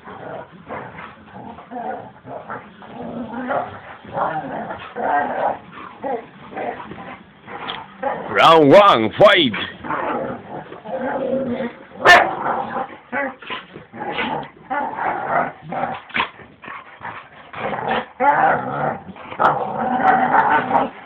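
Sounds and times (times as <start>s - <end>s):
dogs growling and snarling: 0.0s - 8.6s, 9.5s - 21.0s.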